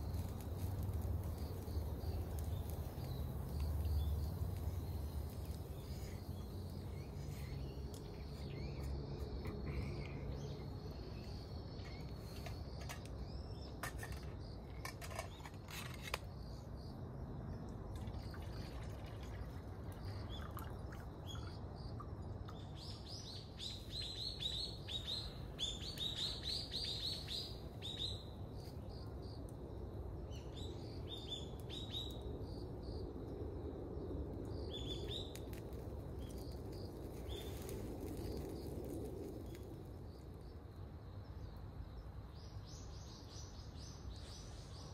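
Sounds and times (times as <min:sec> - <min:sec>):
low outdoor hum: 0:00.0 - 0:44.9.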